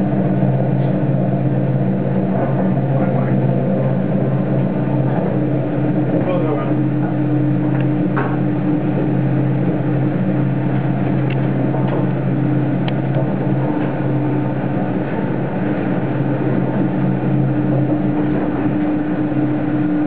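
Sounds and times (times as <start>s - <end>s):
elevator drive machinery humming: 0.0s - 20.0s.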